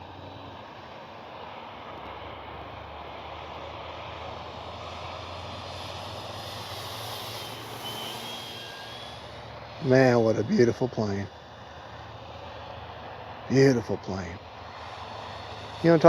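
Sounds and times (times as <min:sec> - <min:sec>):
faint whine: 0:00.0 - 0:16.0
model plane propeller droning: 0:00.0 - 0:16.0.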